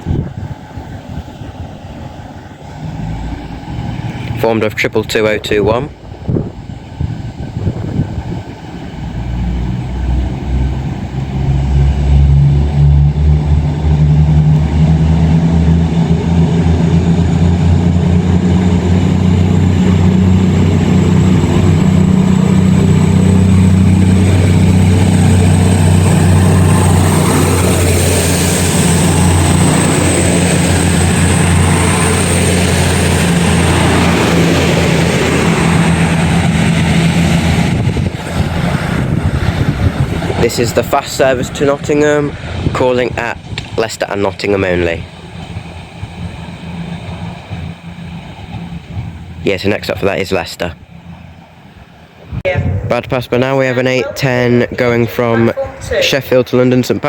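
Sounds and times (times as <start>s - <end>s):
train diesel engines droning: 0.0s - 57.0s.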